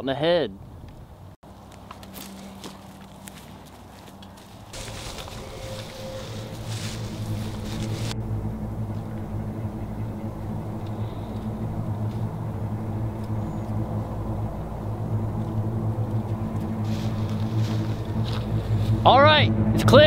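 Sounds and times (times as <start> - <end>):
steady low drone: 1.5 - 20.0.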